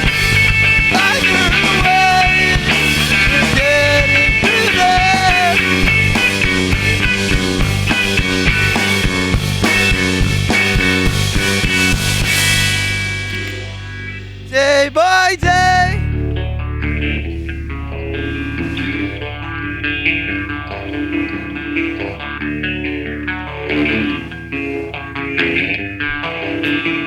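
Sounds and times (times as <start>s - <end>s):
rock band playing punk music: 0.0s - 27.0s.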